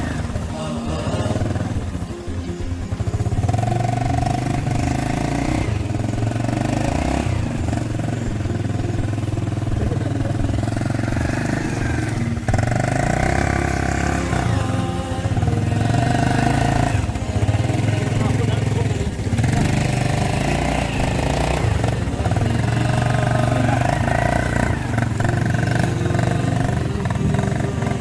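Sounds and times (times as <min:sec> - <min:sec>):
small motorcycle engine revving: 0:00.0 - 0:28.0.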